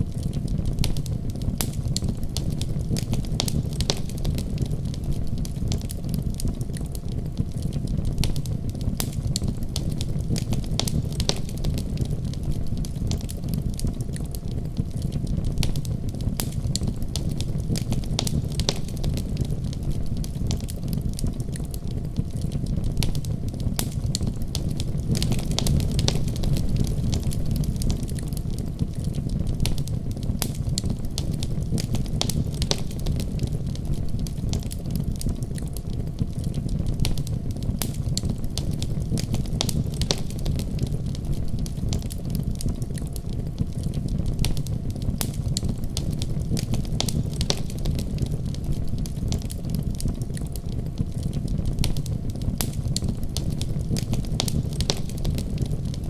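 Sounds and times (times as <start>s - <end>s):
low rumble of flames: 0.0s - 56.0s
burning wood pops and snaps: 0.1s - 56.0s.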